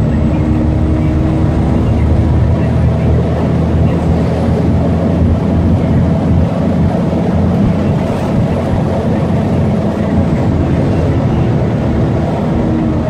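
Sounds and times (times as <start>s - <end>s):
bus diesel engine running: 0.0s - 13.0s
engine cooling fans droning: 0.0s - 13.0s.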